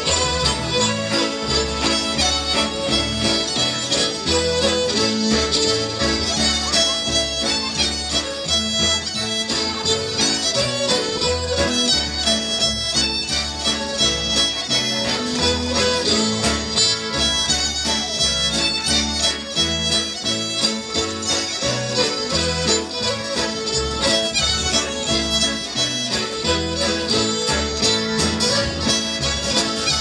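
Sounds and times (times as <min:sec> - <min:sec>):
live band upbeat tune: 0:00.0 - 0:30.0.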